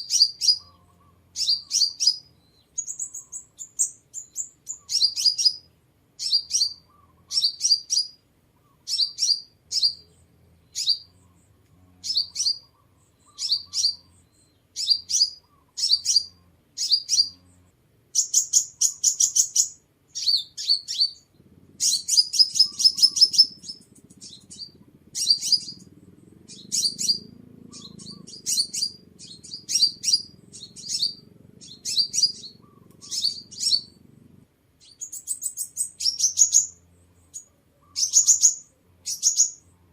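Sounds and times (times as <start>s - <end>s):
sunbird twittering song: 0.0s - 34.0s, 34.8s - 39.9s.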